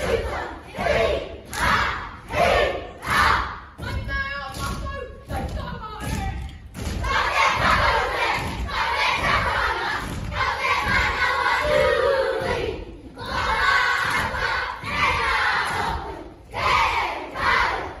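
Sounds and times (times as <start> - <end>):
children shouted chanting in unison: 0.0 - 4.3, 6.9 - 18.0.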